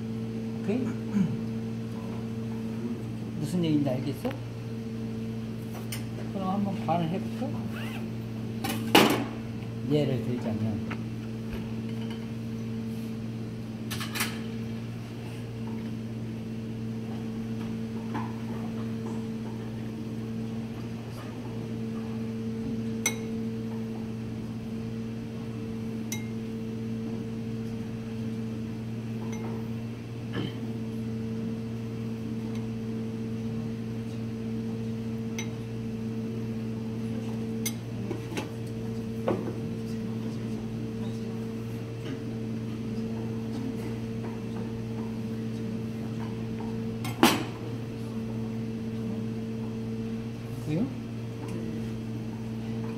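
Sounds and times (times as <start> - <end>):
kitchen equipment hum: 0.0 - 52.9.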